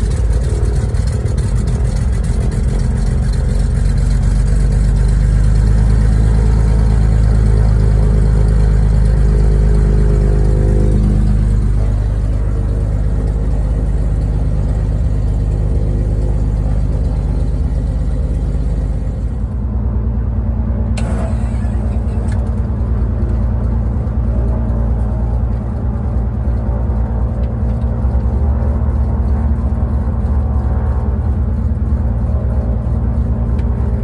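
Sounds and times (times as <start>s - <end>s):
aircraft engine running: 0.0s - 34.0s.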